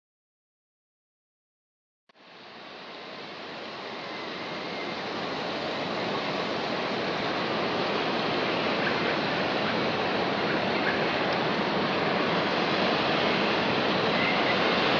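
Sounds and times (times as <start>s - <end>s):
water crashing from dam spillway: 2.2s - 14.9s.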